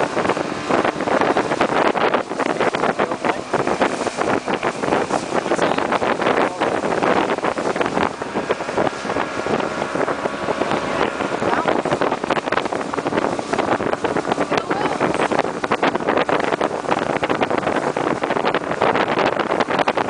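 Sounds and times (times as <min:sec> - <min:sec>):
boat motor running: 0:00.0 - 0:20.0
wind buffeting microphone: 0:00.0 - 0:20.0.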